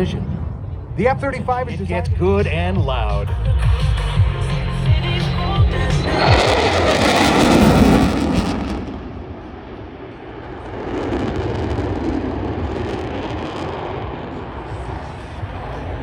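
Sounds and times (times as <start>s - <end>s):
jet flying past: 0.0s - 2.6s, 5.1s - 16.0s.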